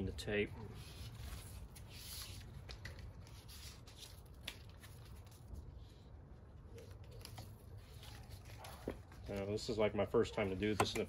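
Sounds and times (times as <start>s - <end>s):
foam tape rustling: 0.7s - 9.9s.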